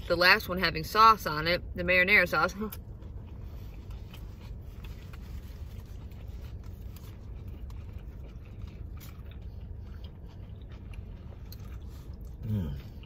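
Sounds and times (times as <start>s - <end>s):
people chewing sandwiches: 2.5s - 13.0s.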